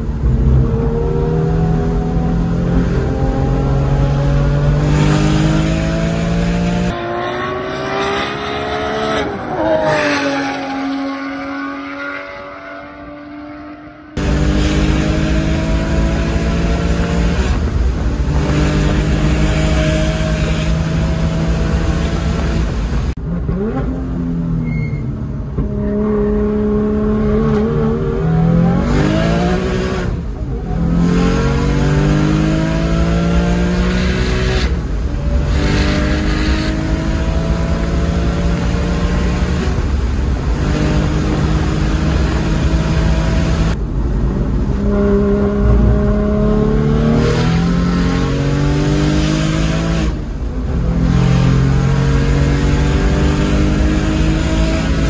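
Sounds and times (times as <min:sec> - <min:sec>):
car engine revving: 0:00.0 - 0:24.6, 0:25.6 - 0:55.0.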